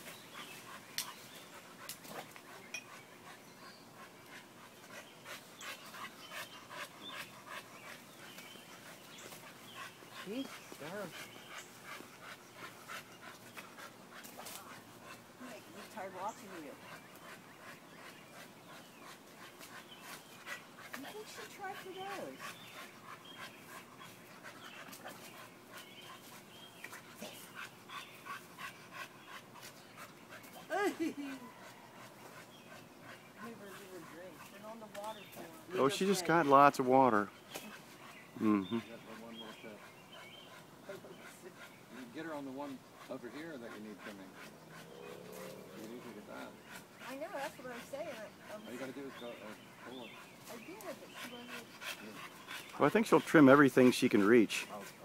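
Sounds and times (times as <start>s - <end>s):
dog panting: 0.0s - 55.0s.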